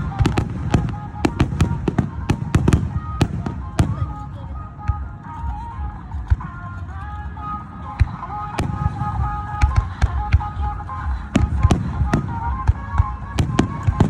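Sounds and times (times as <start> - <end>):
fireworks bursting: 0.0 - 5.5, 7.4 - 14.0.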